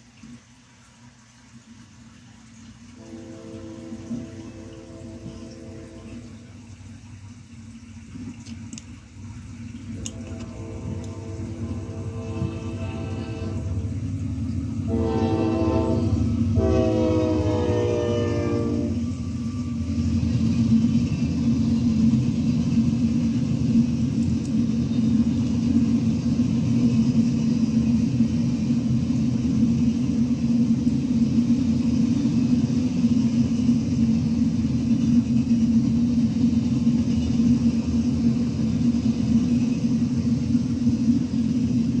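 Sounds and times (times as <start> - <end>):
train wheels rolling on track: 1.4 - 42.0.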